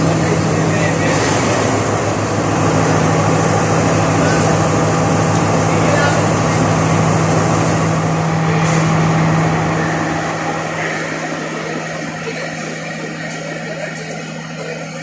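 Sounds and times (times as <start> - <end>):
diesel train engine idling: 0.0 - 15.0.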